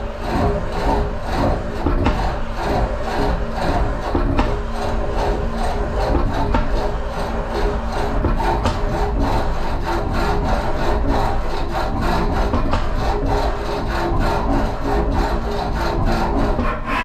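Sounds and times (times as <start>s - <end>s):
engraving tool scraping metal: 0.0s - 17.0s
machine running: 0.0s - 17.0s.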